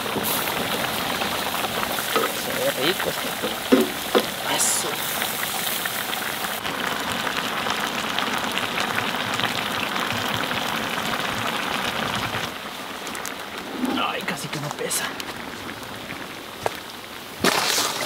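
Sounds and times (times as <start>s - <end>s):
stew sizzling in a pan: 0.0s - 18.0s.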